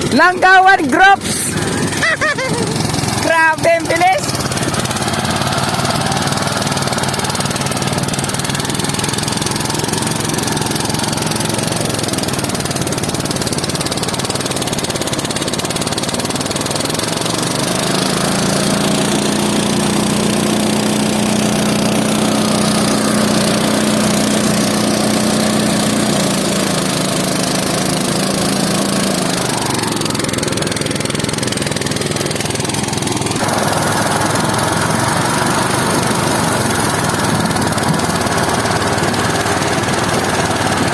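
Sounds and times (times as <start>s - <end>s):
harvester engine running: 0.0s - 40.9s.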